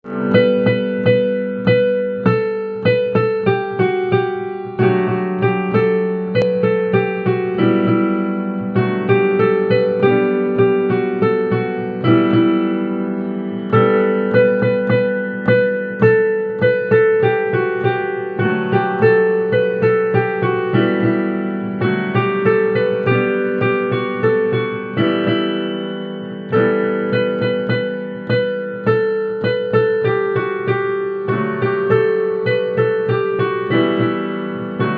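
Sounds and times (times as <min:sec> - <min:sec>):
piano playing: 0:00.0 - 0:34.9.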